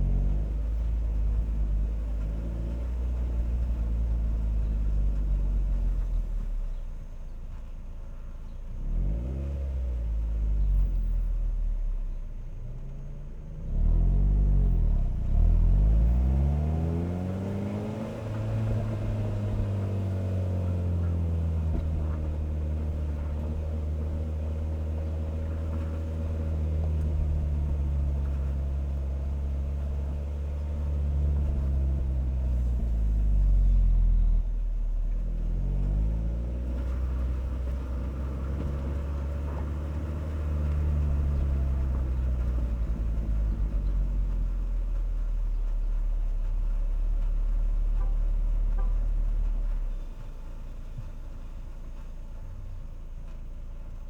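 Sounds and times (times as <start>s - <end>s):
car engine and exhaust: 0.0s - 54.0s.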